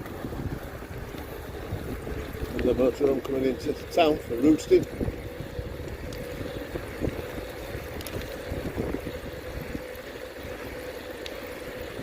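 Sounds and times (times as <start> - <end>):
steady hum: 0.0 - 12.0
wind buffeting microphone: 0.0 - 12.0.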